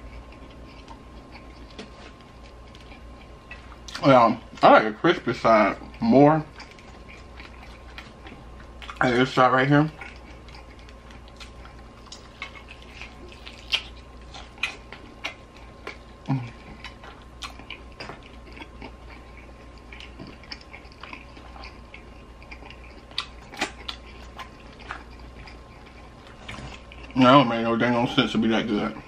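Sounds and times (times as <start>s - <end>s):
person chewing wetly: 0.0s - 27.5s.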